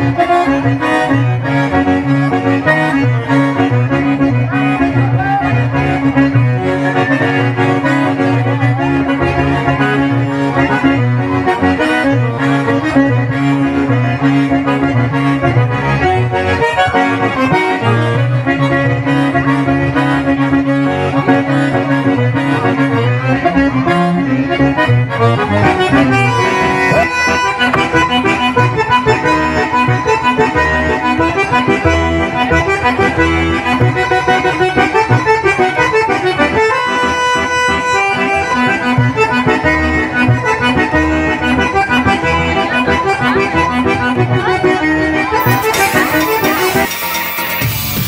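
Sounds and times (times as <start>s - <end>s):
accordion playing: 0.0s - 48.0s.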